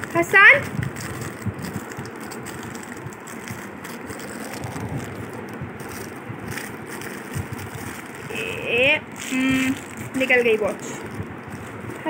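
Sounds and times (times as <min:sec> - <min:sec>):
plastic packaging crinkling: 0:00.0 - 0:12.0
steady background hum: 0:00.0 - 0:12.0.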